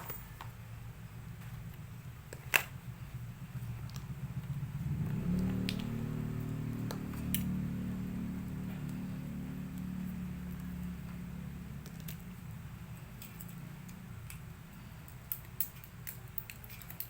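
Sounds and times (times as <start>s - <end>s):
low steady motor hum: 0.0s - 17.0s.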